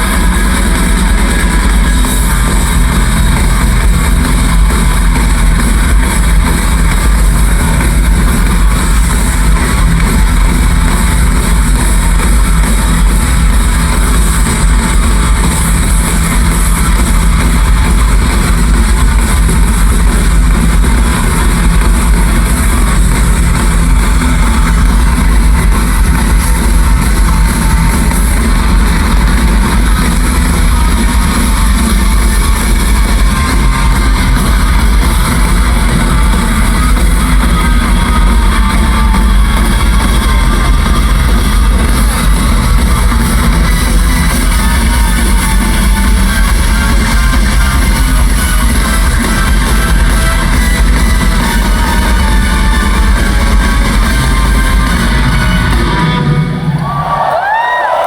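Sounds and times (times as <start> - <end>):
heavy rock band playing live: 0.0 - 58.0.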